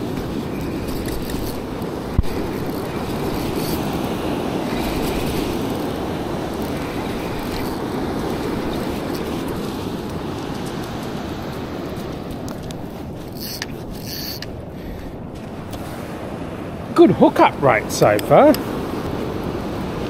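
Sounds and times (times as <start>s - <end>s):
breaking surf: 0.0s - 20.0s
wind buffeting microphone: 0.0s - 20.0s.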